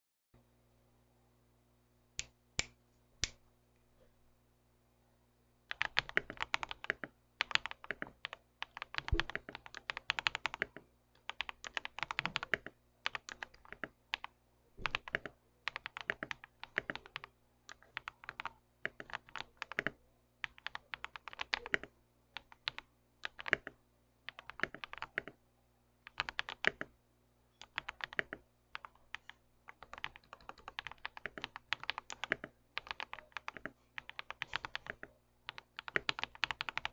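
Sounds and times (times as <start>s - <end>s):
typing on mechanical keyboard: 5.7s - 25.4s, 26.1s - 26.9s, 27.6s - 36.9s.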